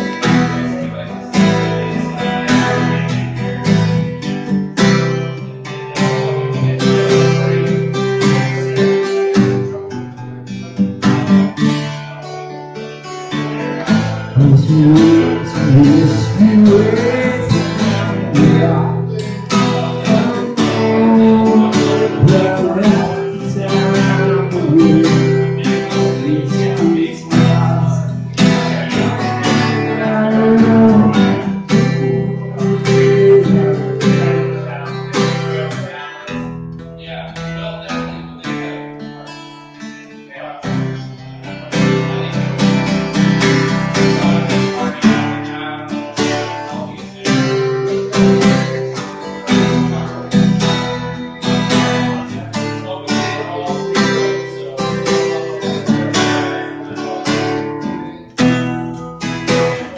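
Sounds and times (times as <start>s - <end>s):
man singing: 0.0s - 4.2s, 12.8s - 38.9s, 40.2s - 59.9s
acoustic guitar strummed: 0.0s - 59.9s.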